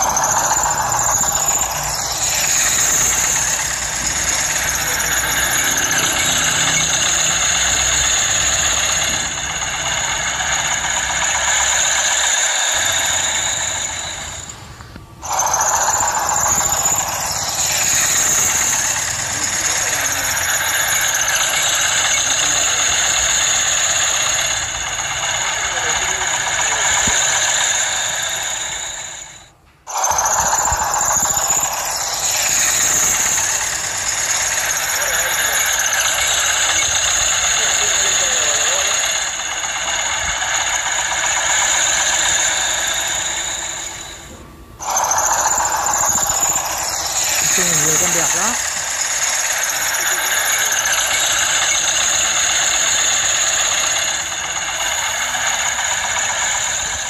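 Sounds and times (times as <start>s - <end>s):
engine running with high whine: 0.0s - 57.0s.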